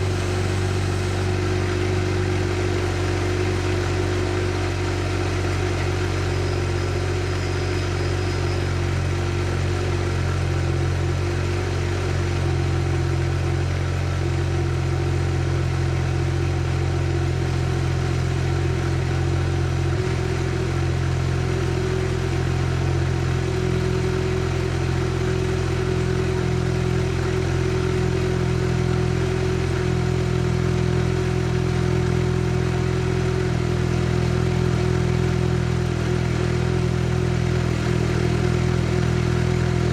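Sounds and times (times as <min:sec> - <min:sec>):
rotary engine idling: 0:00.0 - 0:39.9.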